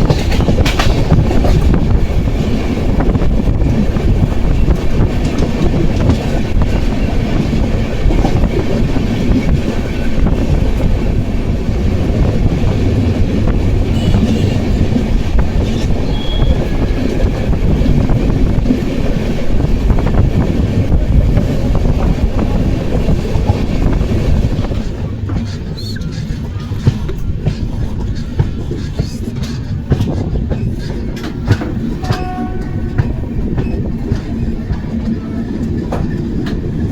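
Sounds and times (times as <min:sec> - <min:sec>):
train wheels rumbling clickety-clack: 0:00.0 - 0:36.9.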